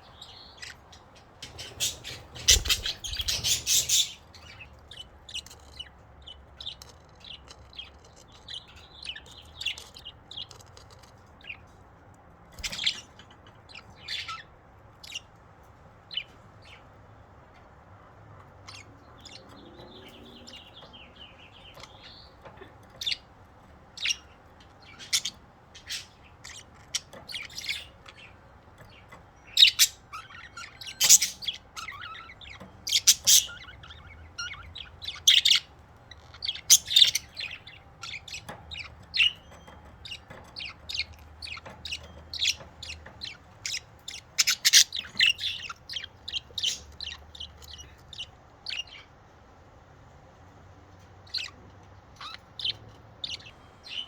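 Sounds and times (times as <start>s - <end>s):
budgerigars chirping: 0.0s - 15.4s, 16.0s - 17.0s, 18.4s - 49.2s, 51.0s - 54.0s.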